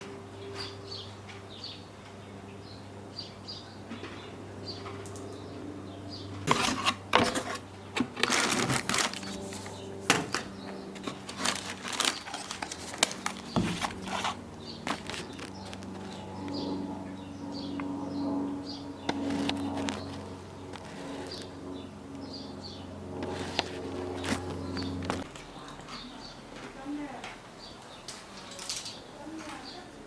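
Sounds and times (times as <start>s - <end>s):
low steady hum: 0.0s - 28.4s.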